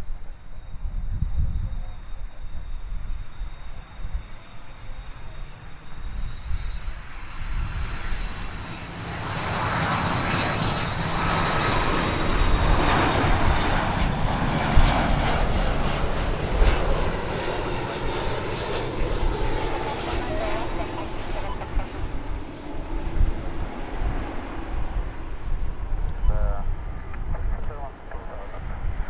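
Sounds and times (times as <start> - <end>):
jet engines whining and rushing: 0.0 - 29.0.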